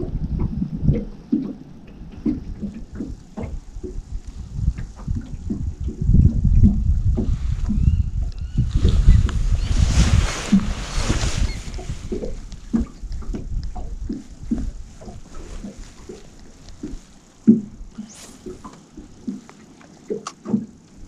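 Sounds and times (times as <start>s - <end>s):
water lapping against boat hull: 0.0s - 21.0s
wind buffeting microphone: 0.0s - 21.0s.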